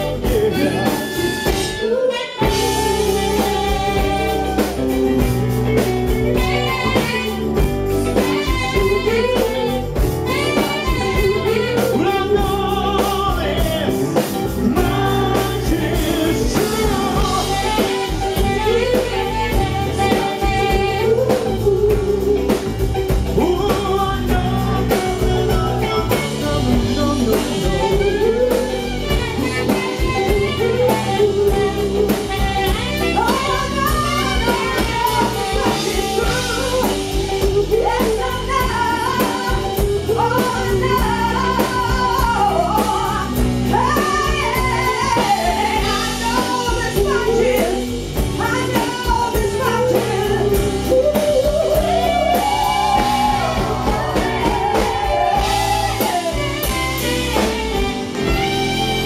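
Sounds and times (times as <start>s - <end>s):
live band playing a ballad: 0.0s - 59.0s
man singing lead: 0.0s - 59.0s.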